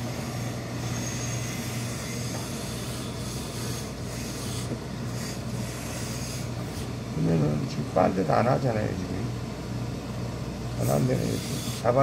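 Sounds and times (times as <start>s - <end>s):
constant low hum: 0.0s - 11.9s.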